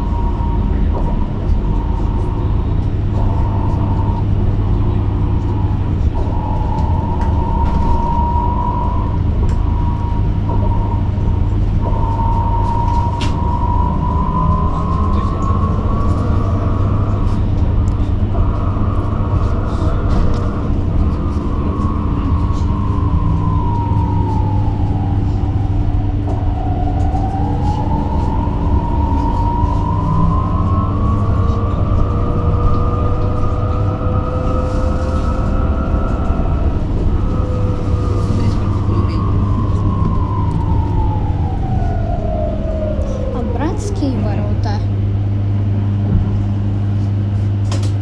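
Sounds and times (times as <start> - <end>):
electric bus motor whining: 0.0 - 48.0
low hum and rolling rumble: 0.0 - 48.0.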